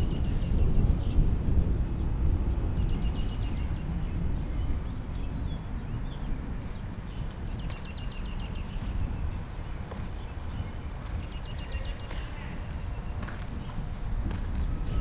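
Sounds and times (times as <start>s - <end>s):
wind rumble on microphone: 0.0s - 15.0s
small birds chirping: 2.8s - 15.0s.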